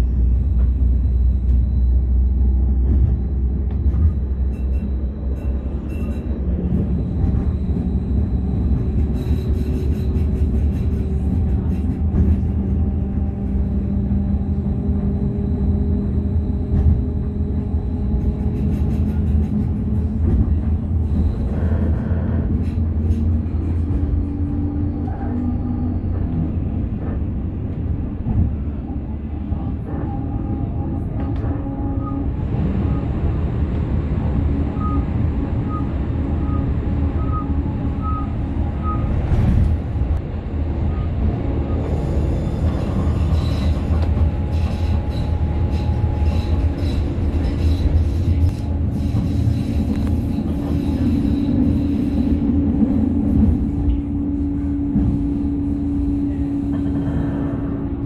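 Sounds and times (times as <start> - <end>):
train rumble with humming drone: 0.0 - 58.0.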